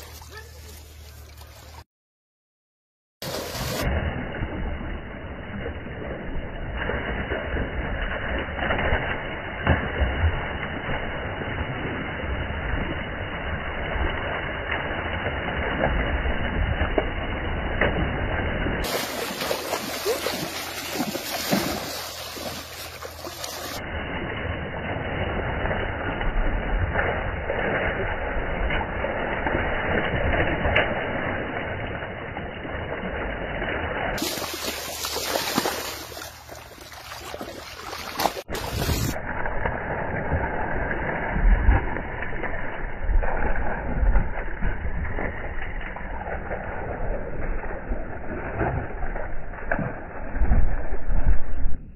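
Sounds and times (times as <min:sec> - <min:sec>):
people wading through river water: 0:00.0 - 0:01.8, 0:03.2 - 0:51.7
sharp splashes: 0:03.2 - 0:51.8.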